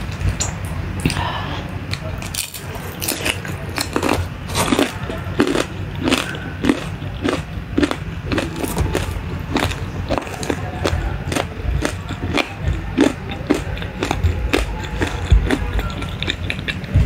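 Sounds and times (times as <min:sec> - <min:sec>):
crunchy chewing: 0:01.9 - 0:17.0.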